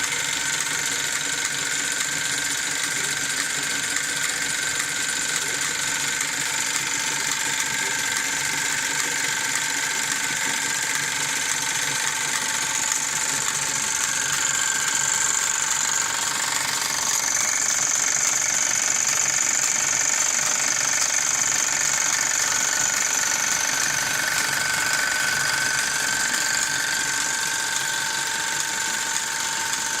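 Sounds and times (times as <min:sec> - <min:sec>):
toy steam engine whirring and hissing: 0:00.0 - 0:30.0.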